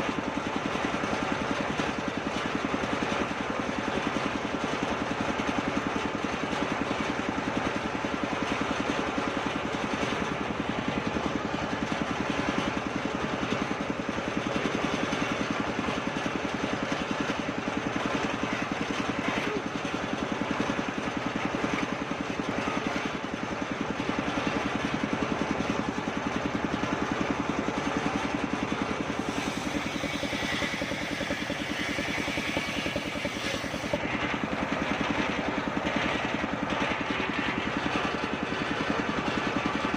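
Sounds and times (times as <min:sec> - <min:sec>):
saw engine chugging: 0:00.0 - 0:39.9.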